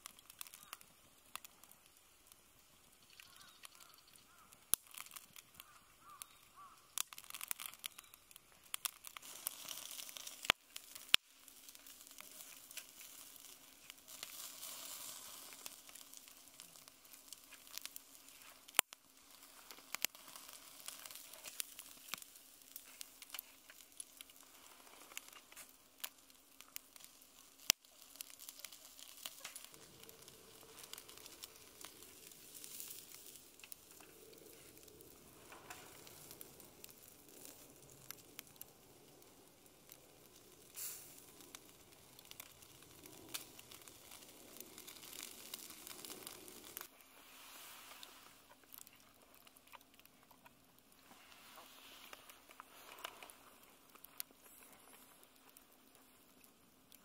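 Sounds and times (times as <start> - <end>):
campfire crackling and hissing: 0.0 - 57.0
firewood popping: 0.0 - 57.0.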